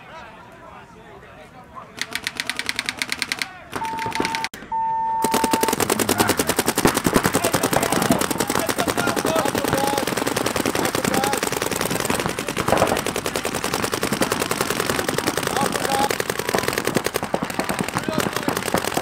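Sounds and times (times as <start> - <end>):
paintball markers firing rapidly: 2.0 - 4.6, 5.3 - 19.0.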